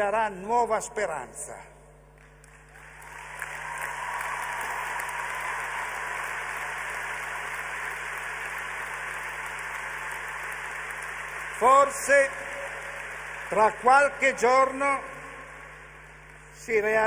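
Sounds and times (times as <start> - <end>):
large audience applauding: 2.2 - 17.0.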